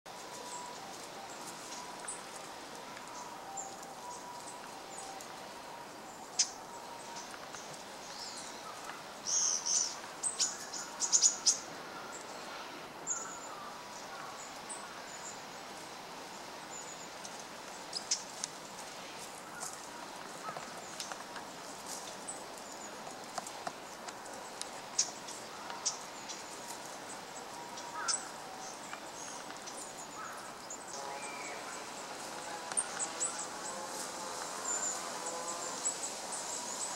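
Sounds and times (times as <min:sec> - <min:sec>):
faint outdoor background: 0:00.0 - 0:36.9.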